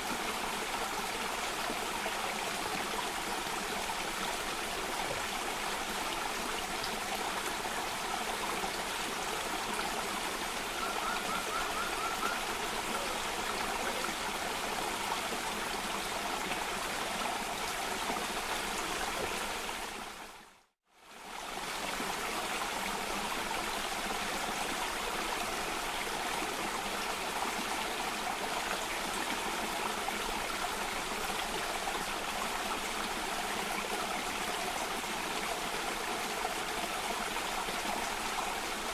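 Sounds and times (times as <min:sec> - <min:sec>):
cascading water rushing: 0:00.0 - 0:38.9.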